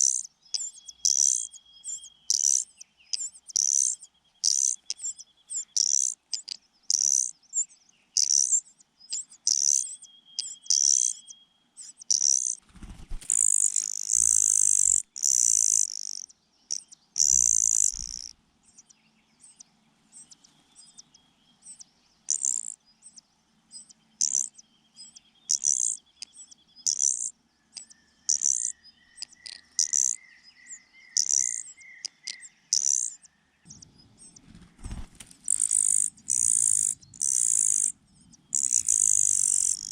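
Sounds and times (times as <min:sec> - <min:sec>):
nestlings begging calls: 0:00.0 - 0:39.9.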